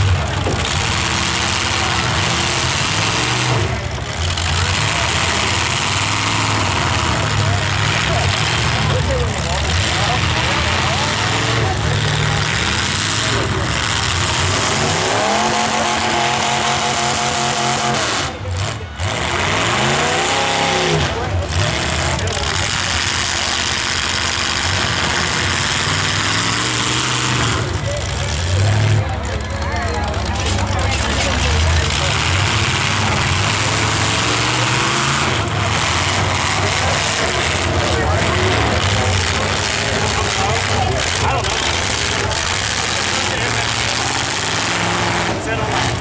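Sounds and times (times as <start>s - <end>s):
car engine revving: 0.0s - 46.0s
loud exhaust noise: 0.0s - 46.0s
voices: 0.0s - 46.0s.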